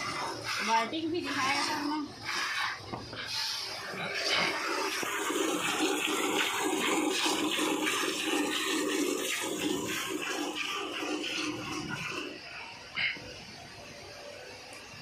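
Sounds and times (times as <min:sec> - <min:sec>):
milk squirting into steel bucket: 0:00.0 - 0:12.4.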